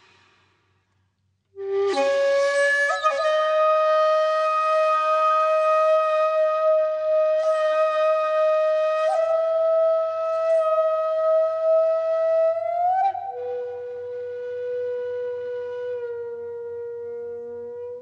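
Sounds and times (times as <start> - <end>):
flute holding long note: 1.6 - 18.0.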